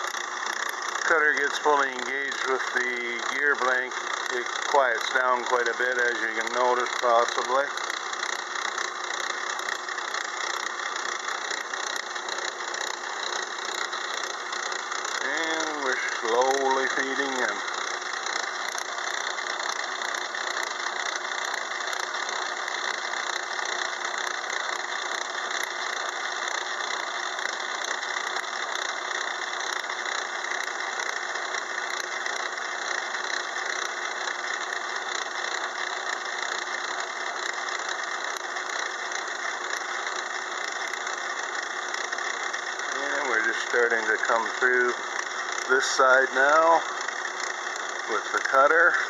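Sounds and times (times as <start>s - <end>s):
metal lathe cutting steel: 0.0s - 49.0s.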